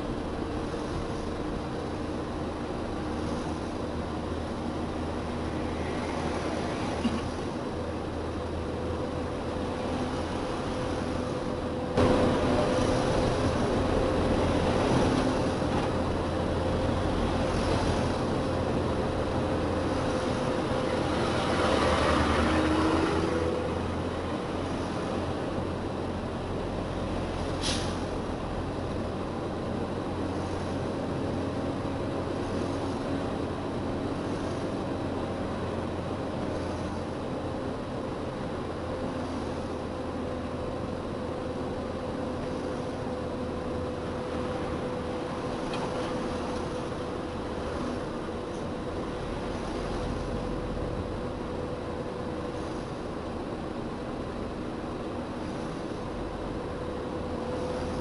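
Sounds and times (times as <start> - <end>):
road noise: 0.0 - 58.0
truck engine running: 0.0 - 58.0.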